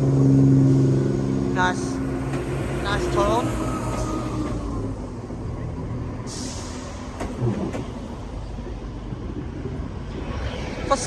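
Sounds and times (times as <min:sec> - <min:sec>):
diesel train engines droning: 0:00.0 - 0:11.0.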